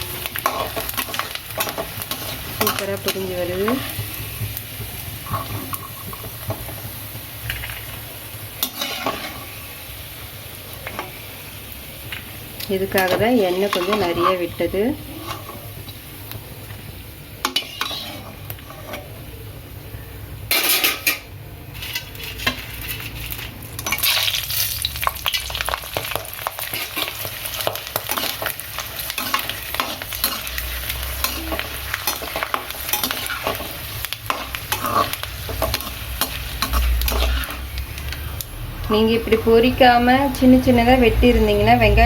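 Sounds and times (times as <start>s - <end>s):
vegetables sizzling in hot oil: 0.0s - 42.0s.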